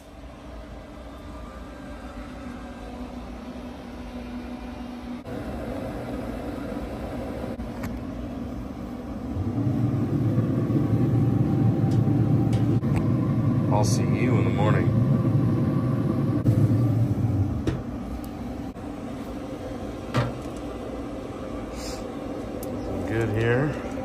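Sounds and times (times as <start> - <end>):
smoker fan humming: 0.0 - 24.0.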